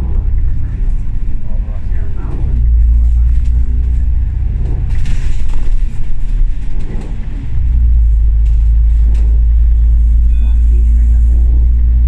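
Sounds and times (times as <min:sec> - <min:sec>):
rattling: 0:00.0 - 0:10.3
bus engine and road rumble: 0:00.0 - 0:12.0.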